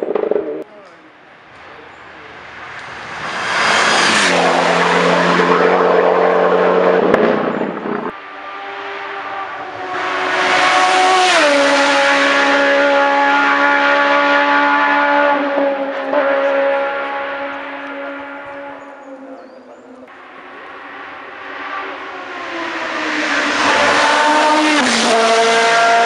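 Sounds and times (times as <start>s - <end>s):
race cars passing at speed: 0.0s - 26.0s.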